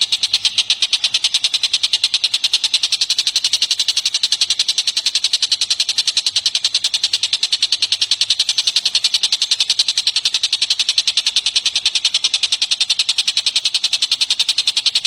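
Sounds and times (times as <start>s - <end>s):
bird trilling: 0.0s - 15.0s.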